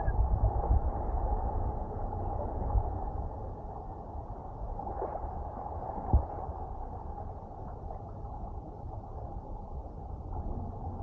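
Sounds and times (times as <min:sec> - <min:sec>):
low rumble: 0:00.0 - 0:11.0
water lapping and splashing: 0:00.5 - 0:11.0.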